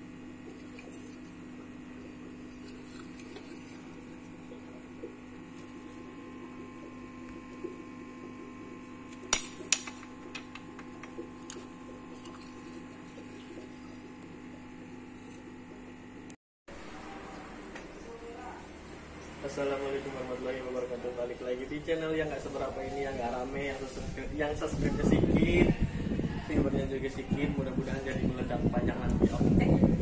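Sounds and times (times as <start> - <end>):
aquarium pump humming: 0.0 - 30.0.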